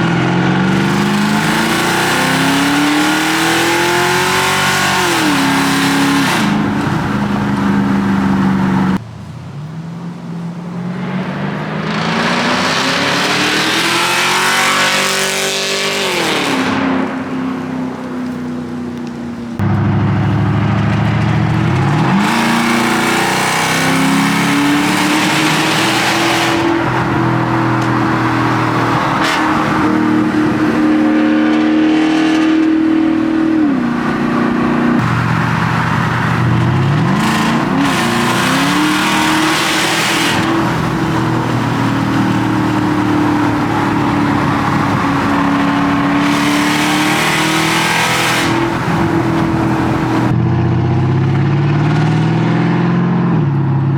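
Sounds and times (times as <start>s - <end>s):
loud car engine revving: 0.0s - 53.9s.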